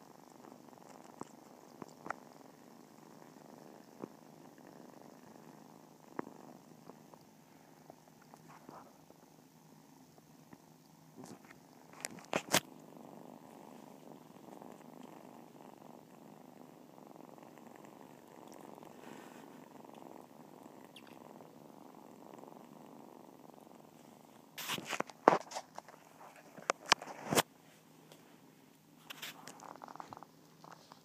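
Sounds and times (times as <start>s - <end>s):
kittens purring: 0.0s - 31.0s.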